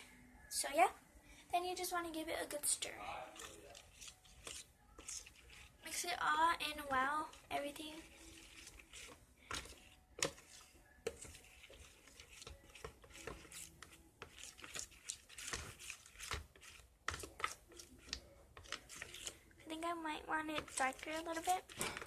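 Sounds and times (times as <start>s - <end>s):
utensil scraping and clicking in bowl: 3.3s - 6.0s, 6.7s - 22.0s.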